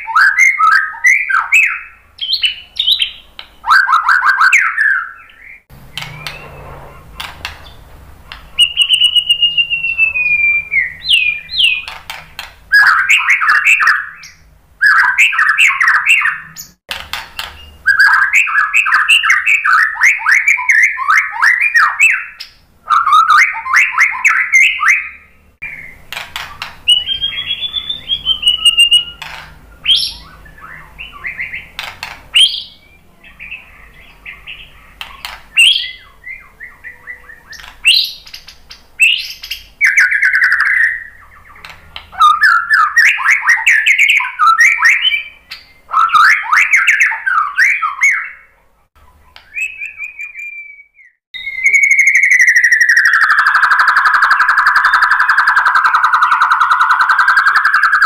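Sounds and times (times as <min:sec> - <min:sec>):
bird singing fast chattering notes: 0:00.0 - 0:16.8, 0:17.4 - 0:48.4, 0:49.5 - 0:58.0.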